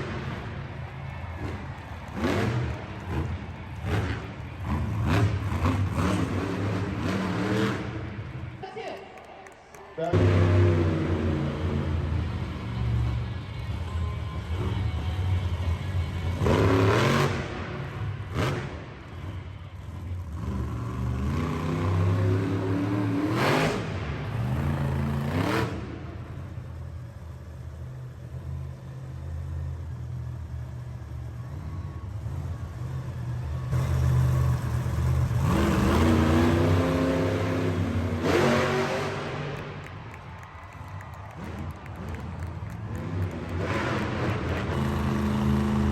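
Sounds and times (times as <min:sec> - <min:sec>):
monster truck engine revving: 0:00.0 - 0:08.6, 0:10.1 - 0:45.9.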